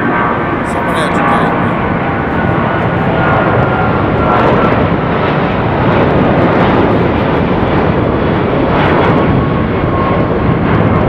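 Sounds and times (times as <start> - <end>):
jet engines at takeoff thrust: 0.0 - 11.0.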